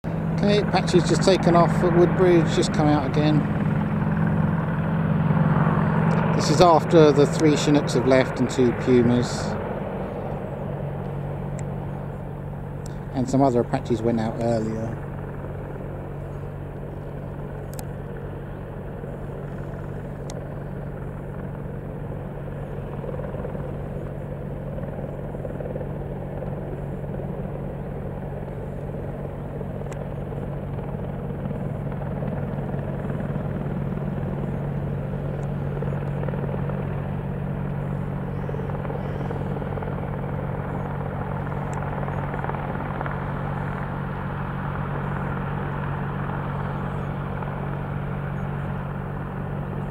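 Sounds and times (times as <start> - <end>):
helicopter drone: 0.0 - 49.9.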